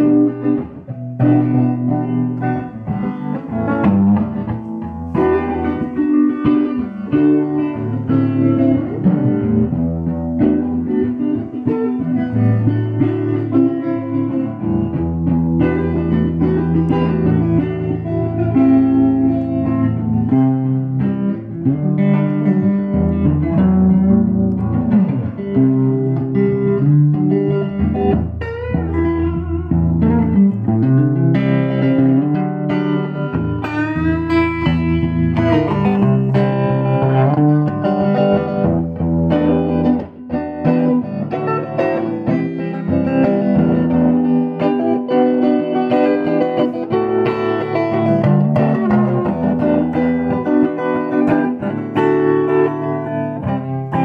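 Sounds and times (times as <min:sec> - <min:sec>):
guitar music: 0:00.0 - 0:54.0.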